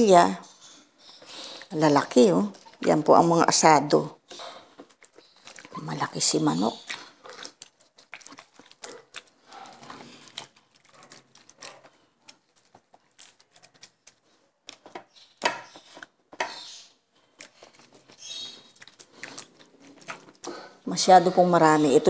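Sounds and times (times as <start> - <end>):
hands squelching raw chicken: 0.6 - 22.0.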